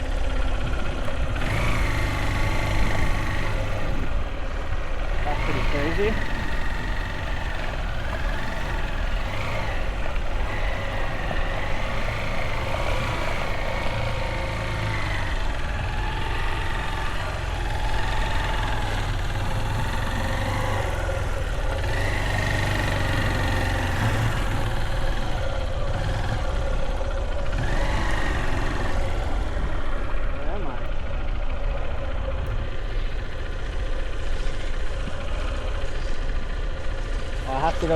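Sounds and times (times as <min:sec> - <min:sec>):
motorbike engine running: 0:00.0 - 0:37.9.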